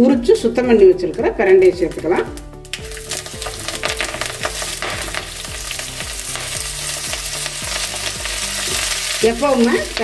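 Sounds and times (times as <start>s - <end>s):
stems sizzling in hot oil: 1.9s - 10.0s.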